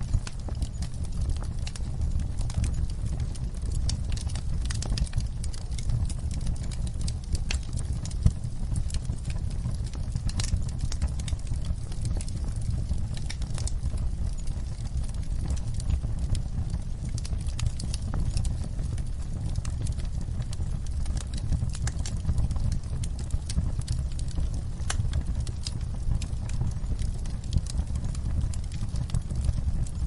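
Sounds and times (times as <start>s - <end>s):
low rumble of flames: 0.0s - 30.0s
wood fire crackling and snapping: 0.0s - 30.0s.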